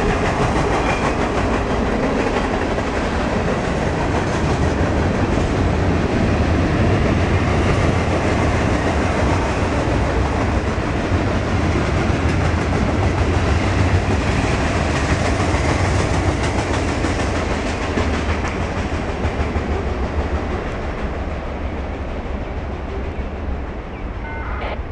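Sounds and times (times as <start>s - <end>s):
freight train rumbling past: 0.0s - 24.9s.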